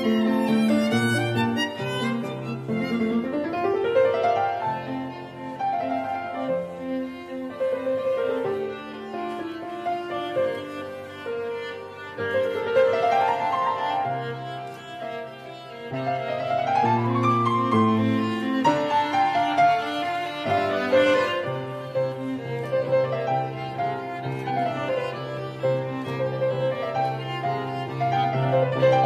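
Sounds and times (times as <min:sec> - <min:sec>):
strings and piano music: 0:00.0 - 0:29.0.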